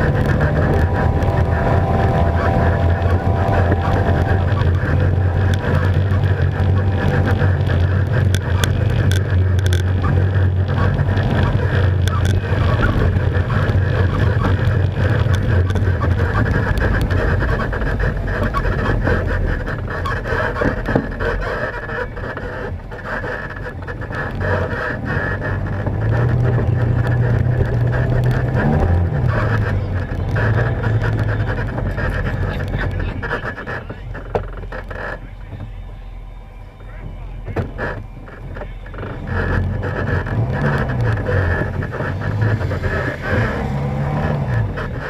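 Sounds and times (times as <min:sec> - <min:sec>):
atv engine running hard: 0:00.0 - 0:45.0.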